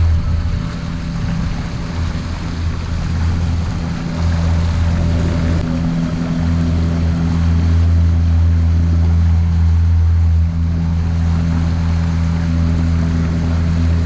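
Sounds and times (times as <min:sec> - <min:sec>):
motorboat engine running: 0:00.0 - 0:14.0
water rushing along hull: 0:00.0 - 0:14.0.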